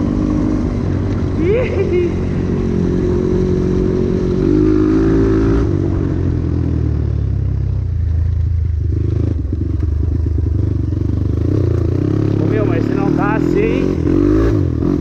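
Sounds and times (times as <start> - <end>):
dirt bike engine revving: 0.0 - 6.4, 8.9 - 15.0.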